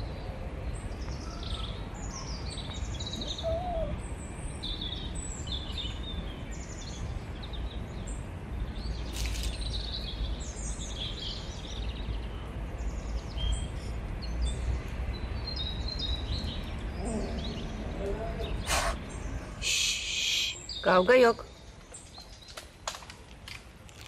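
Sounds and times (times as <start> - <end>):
small birds chirping: 0.7 - 22.8.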